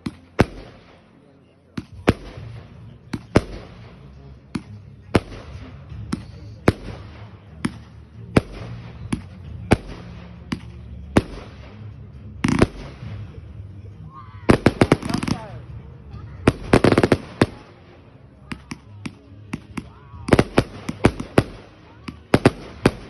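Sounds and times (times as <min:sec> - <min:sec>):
fireworks bangs: 0:00.0 - 0:01.1, 0:01.8 - 0:13.4, 0:14.5 - 0:15.8, 0:16.4 - 0:17.9, 0:18.5 - 0:23.0.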